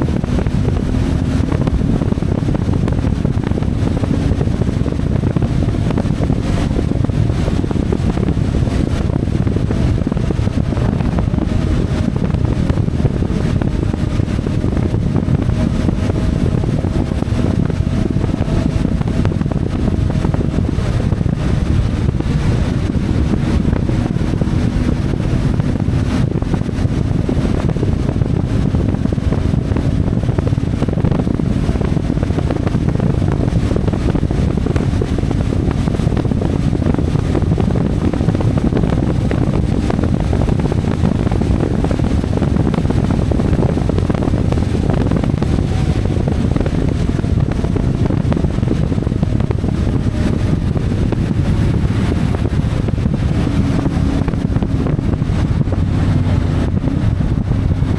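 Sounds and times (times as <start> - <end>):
motorcycle engine running: 0.0 - 57.9
wind noise on microphone: 0.0 - 57.9.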